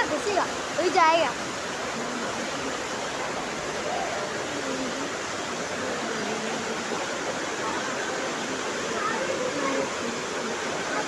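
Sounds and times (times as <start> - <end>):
faint voices: 0.0 - 11.0
heavy rain: 0.0 - 11.0
running water: 0.0 - 11.0.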